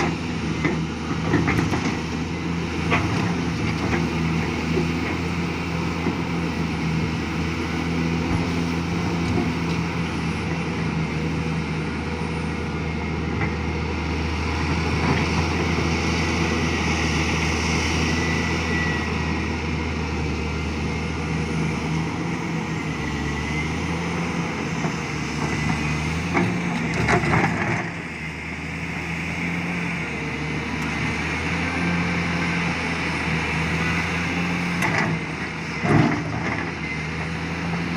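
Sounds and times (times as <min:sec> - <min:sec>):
large diesel engine running: 0:00.0 - 0:37.9.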